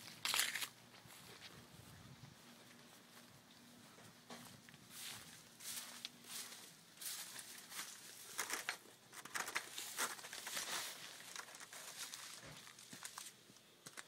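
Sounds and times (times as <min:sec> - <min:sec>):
footsteps crunching on dry ground: 0:00.0 - 0:14.0.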